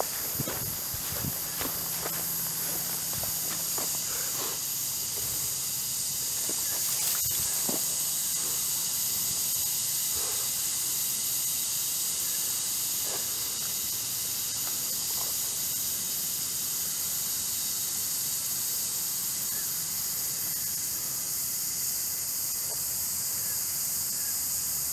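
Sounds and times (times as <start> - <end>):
steady high-pitched hiss: 0.0 - 24.9.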